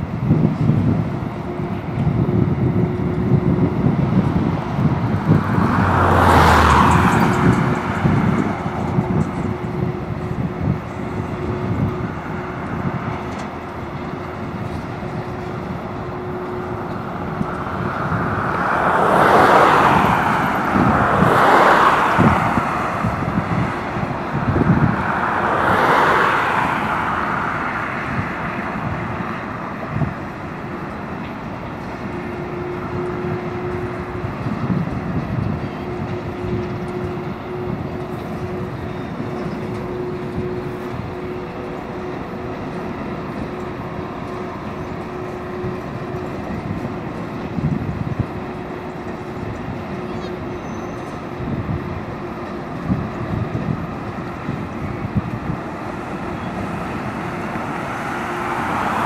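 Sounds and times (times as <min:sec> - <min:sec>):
train wheels rumbling: 0:00.0 - 0:59.0
rushing swells: 0:01.0 - 0:59.0.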